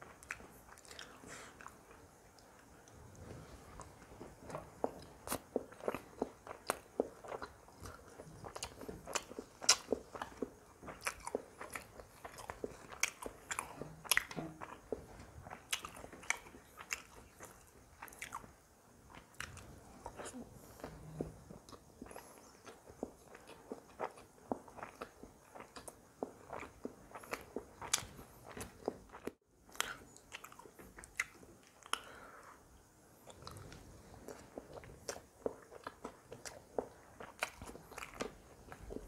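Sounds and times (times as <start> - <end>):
chewing with wet mouth clicks: 0.1 - 3.0, 3.8 - 18.5, 19.1 - 32.1, 33.2 - 39.0.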